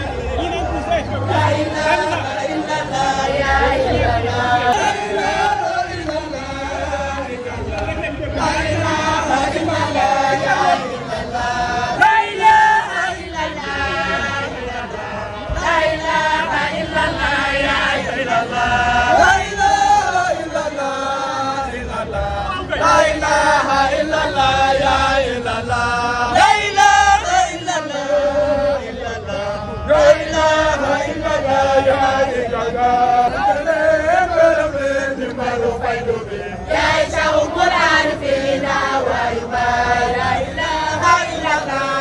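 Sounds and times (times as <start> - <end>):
group chanting a devotional song: 0.0 - 42.0.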